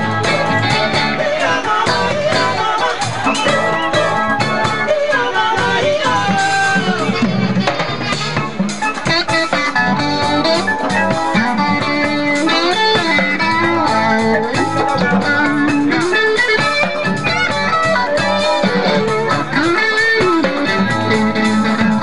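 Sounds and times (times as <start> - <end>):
electric guitar: 0.0 - 22.0
live band playing: 0.0 - 22.0.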